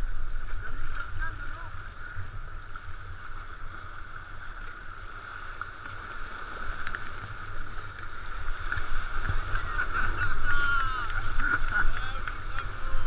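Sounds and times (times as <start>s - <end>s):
water sloshing around kayak hulls: 0.0s - 13.0s
waves splashing against rocks: 0.0s - 13.0s.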